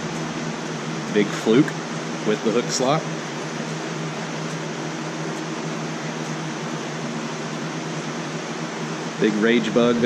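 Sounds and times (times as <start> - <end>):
fan whooshing: 0.0 - 10.0
low hum: 0.0 - 10.0.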